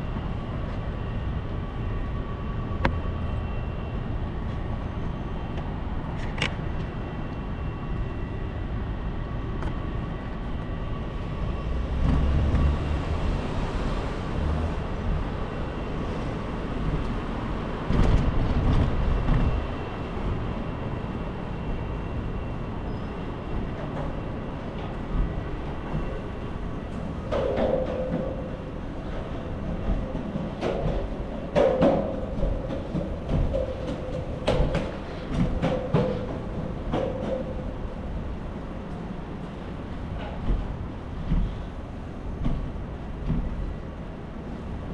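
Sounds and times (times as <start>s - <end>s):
rumbling street traffic: 0.0s - 44.9s.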